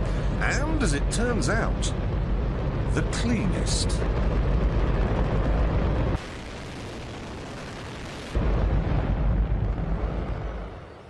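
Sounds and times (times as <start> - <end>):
rocket engine rushing rumble: 0.0 - 11.0.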